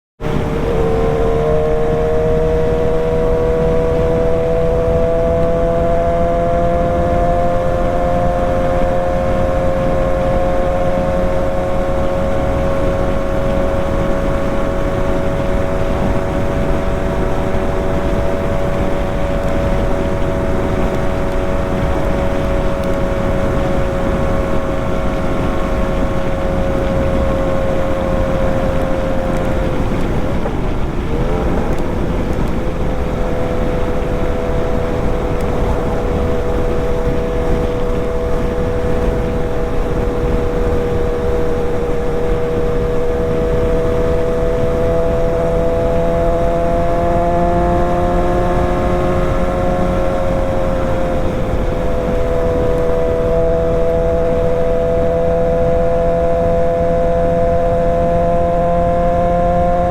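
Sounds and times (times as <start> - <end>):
motorcycle engine cruising: 0.2 - 59.9
wind noise: 0.2 - 59.9.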